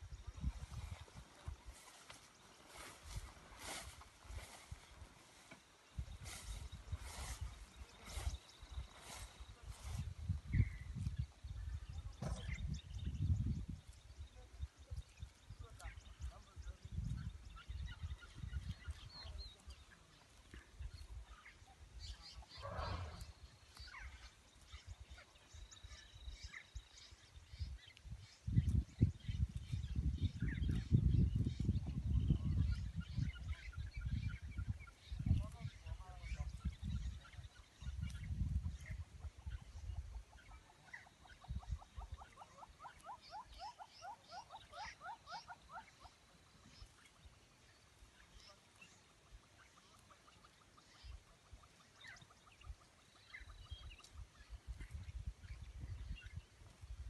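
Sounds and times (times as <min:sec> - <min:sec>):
birds chirping and calling: 0:00.0 - 0:56.8.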